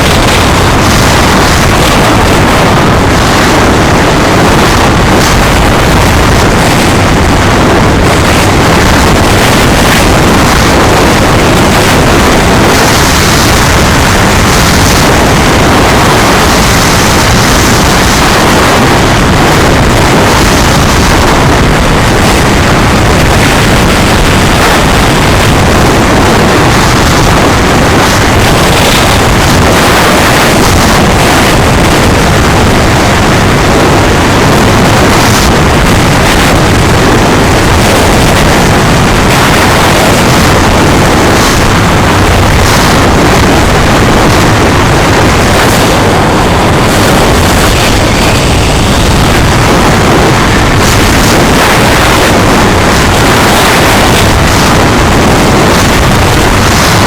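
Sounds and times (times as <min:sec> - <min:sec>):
vehicle running noise: 0:00.0 - 0:57.0
wind buffeting microphone: 0:00.0 - 0:57.0.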